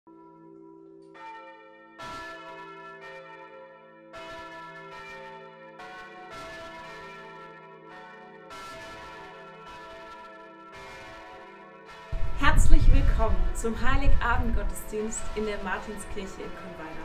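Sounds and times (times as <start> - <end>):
church bells ringing: 0.1 - 17.0.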